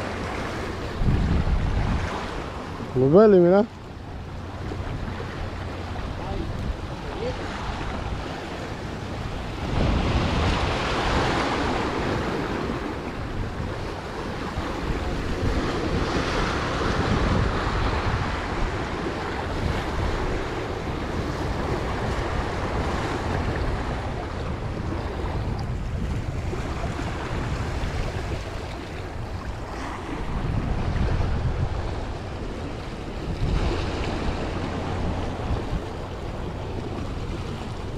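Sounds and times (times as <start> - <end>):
wind on microphone: 0.0 - 3.1, 3.9 - 37.9
waves breaking on rocks: 4.5 - 37.9.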